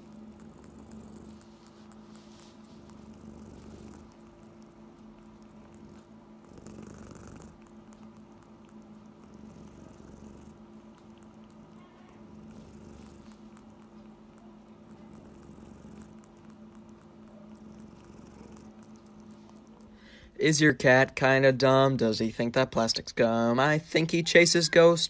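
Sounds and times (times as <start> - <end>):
cat purring: 0.0 - 20.2.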